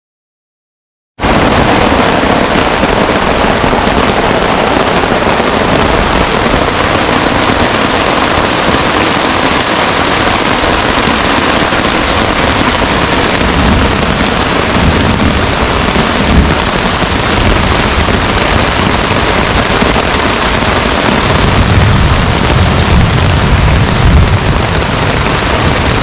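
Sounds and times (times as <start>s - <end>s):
heavy rain falling: 1.2s - 26.0s.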